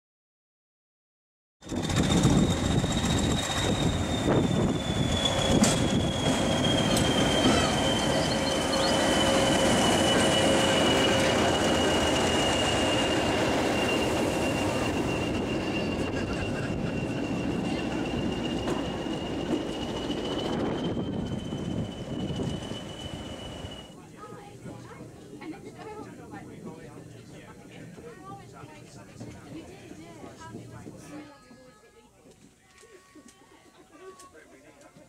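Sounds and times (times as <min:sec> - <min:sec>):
diesel train rumbling: 0:01.6 - 0:31.3.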